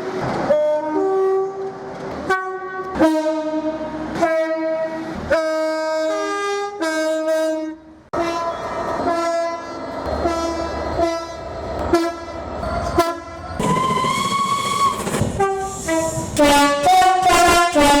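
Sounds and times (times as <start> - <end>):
locomotive horn playing tune: 0.5 - 18.0.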